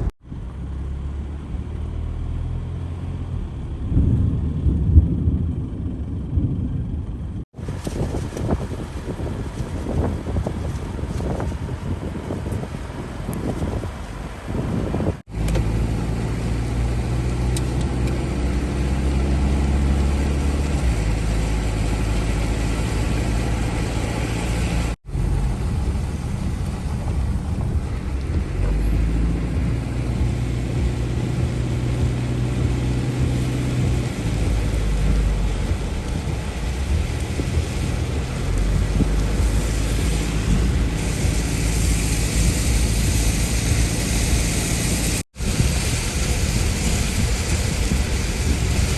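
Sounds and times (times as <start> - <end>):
road noise hiss: 0.0 - 3.8, 7.6 - 48.9
car engine while driving: 0.0 - 48.9.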